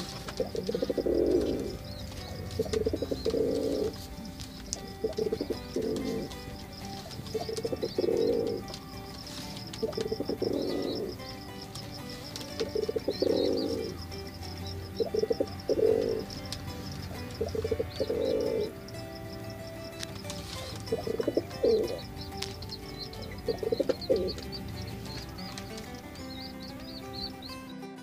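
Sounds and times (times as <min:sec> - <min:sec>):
pigeon cooing: 0:00.0 - 0:27.5
faint high chirping: 0:00.0 - 0:28.0.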